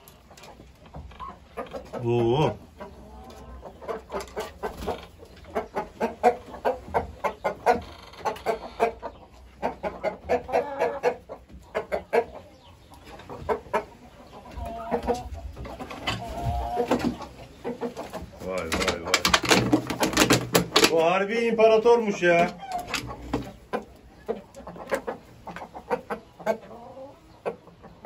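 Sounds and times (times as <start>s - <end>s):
young chicken clucking: 0.0s - 21.0s, 22.0s - 28.0s.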